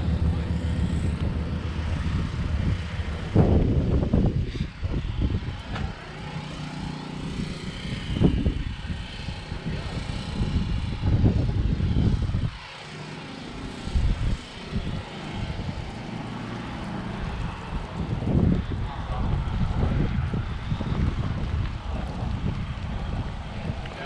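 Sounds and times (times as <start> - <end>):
distant engine drone: 0.0 - 24.0
wind buffeting microphone: 0.0 - 24.0.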